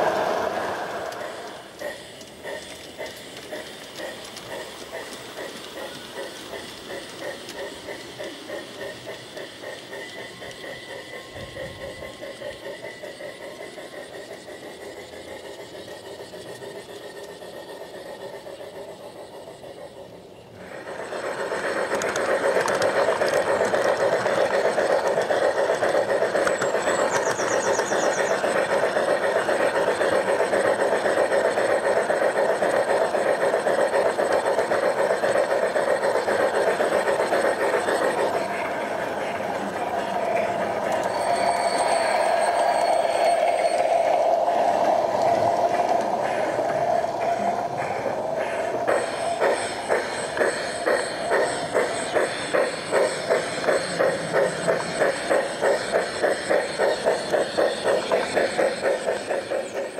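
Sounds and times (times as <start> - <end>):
model train wheels and motor: 0.0 - 59.9
rattle of wheels and gear motor: 0.1 - 59.9.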